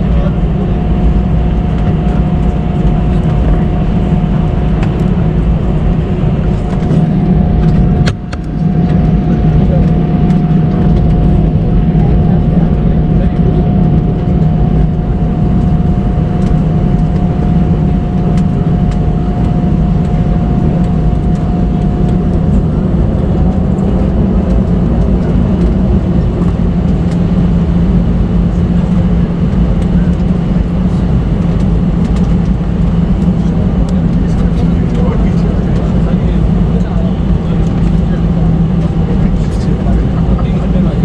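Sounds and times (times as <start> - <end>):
airliner cabin engine rumble: 0.0 - 41.0.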